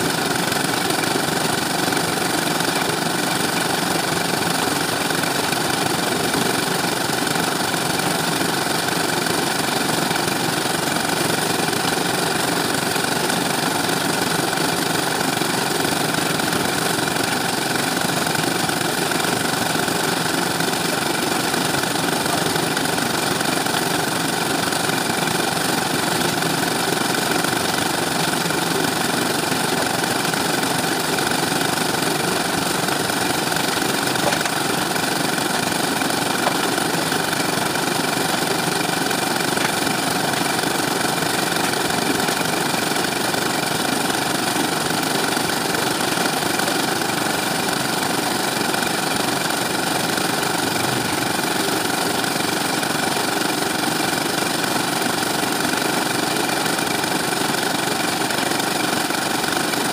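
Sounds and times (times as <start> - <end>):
concrete mixer engine running: 0.0 - 59.9.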